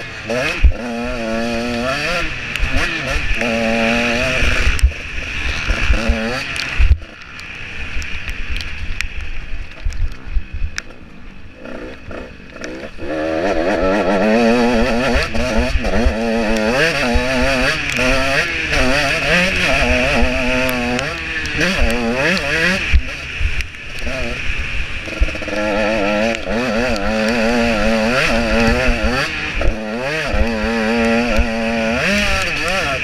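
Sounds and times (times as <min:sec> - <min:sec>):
motocross engine revving: 0:00.0 - 0:08.0, 0:11.5 - 0:33.0.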